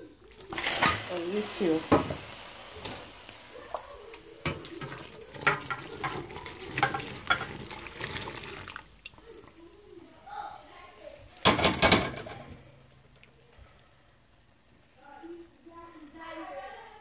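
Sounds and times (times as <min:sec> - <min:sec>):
water pouring through colander: 0:00.0 - 0:17.0.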